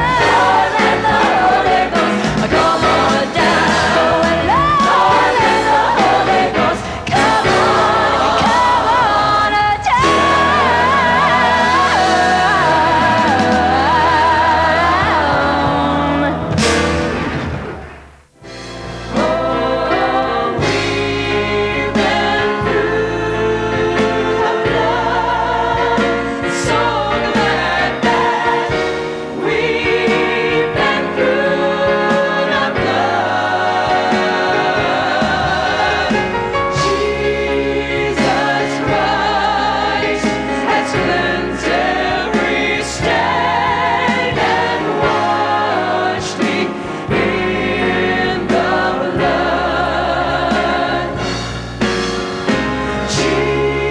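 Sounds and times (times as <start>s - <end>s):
vocal group singing gospel: 0.0s - 17.3s, 18.4s - 53.9s
instrumental accompaniment: 0.0s - 53.9s.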